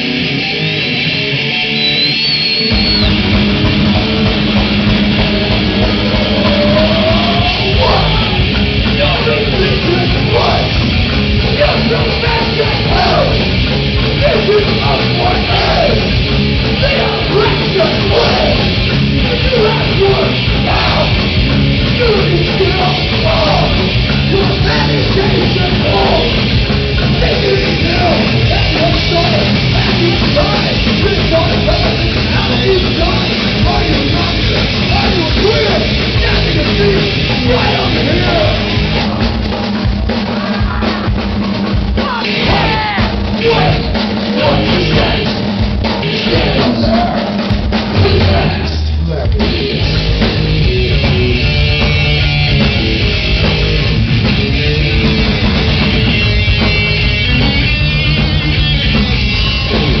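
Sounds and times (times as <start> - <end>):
punk band playing live: 0.0 - 60.0.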